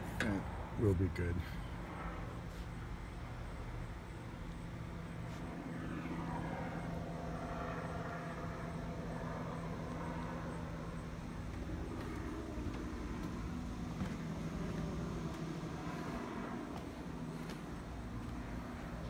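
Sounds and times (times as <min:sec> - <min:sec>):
light airplane engine drone: 0:00.0 - 0:19.0
steady low hum: 0:00.0 - 0:19.0.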